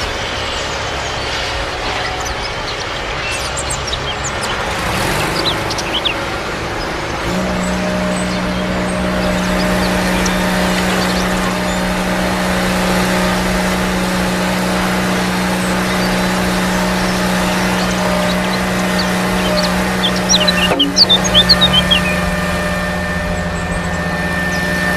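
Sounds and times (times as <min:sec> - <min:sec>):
small electric motor whining: 0:00.0 - 0:24.9.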